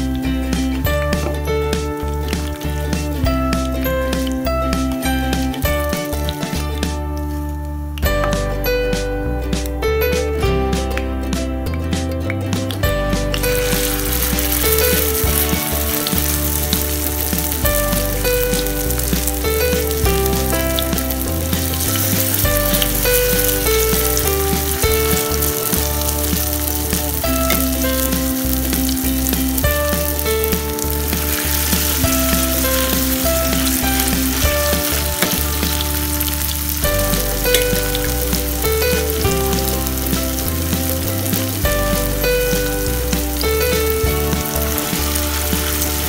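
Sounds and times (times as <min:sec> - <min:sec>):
food sizzling in hot oil: 0:00.0 - 0:08.2, 0:12.6 - 0:46.0
background music with bass line: 0:00.0 - 0:46.0.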